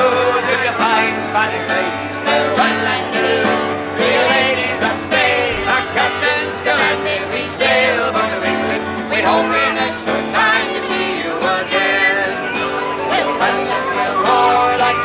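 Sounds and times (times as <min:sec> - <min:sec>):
people singing together: 0:00.0 - 0:15.0
strummed acoustic guitar: 0:00.0 - 0:15.0.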